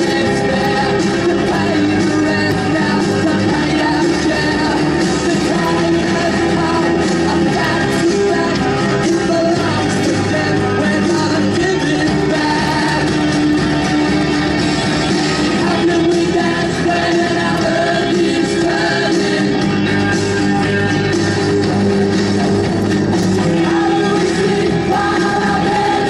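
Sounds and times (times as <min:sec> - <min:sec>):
rock song with singing: 0:00.0 - 0:26.0.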